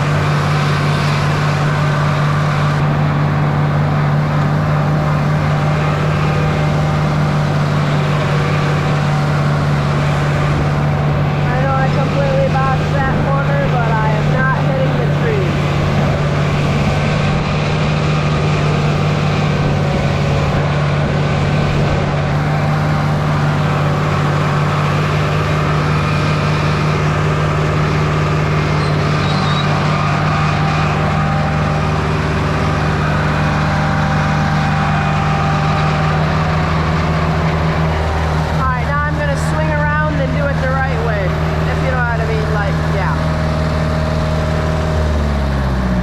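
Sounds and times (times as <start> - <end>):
tractor engine running under load: 0.0 - 46.0.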